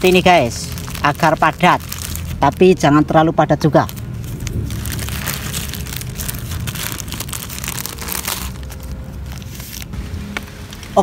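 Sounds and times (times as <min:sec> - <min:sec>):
low steady rumble: 0:00.0 - 0:11.0
plastic wrap crinkling: 0:00.0 - 0:11.0.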